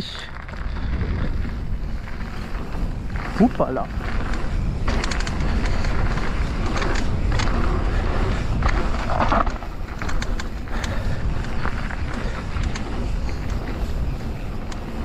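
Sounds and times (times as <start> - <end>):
bike ticks and rattles: 0.0 - 15.0
bike tyres rumbling on dirt: 0.0 - 15.0.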